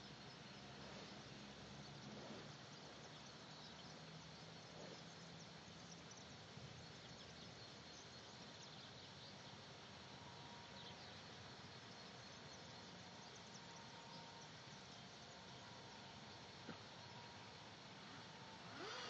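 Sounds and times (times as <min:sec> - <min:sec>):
faint low hum: 0:00.0 - 0:19.0
faint outdoor hiss: 0:00.0 - 0:19.0.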